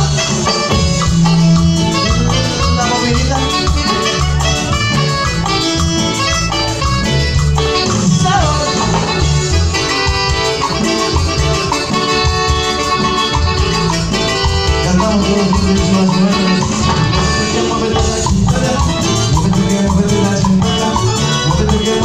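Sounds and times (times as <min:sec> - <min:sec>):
live band playing: 0:00.0 - 0:22.0.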